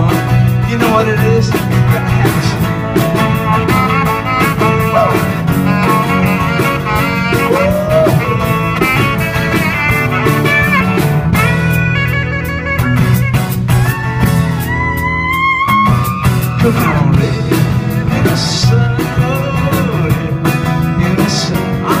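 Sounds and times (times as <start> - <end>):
saxophone lead: 0.0 - 20.3
blues rock band playing: 0.0 - 22.0.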